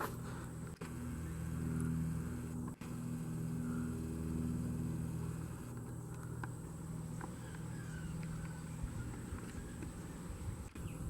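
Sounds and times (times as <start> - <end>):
propeller airplane droning overhead: 0.0 - 11.0.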